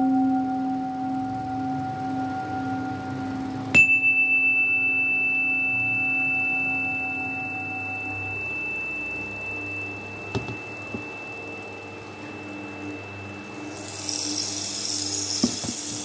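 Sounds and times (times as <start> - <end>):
singing bowl high ringing tone: 0.0 - 16.0
singing bowl low hum: 0.0 - 16.0.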